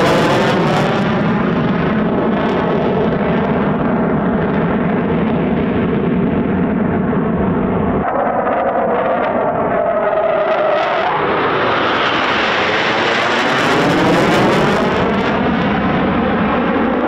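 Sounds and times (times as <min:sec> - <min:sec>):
fighter jet engines roaring: 0:00.0 - 0:17.0.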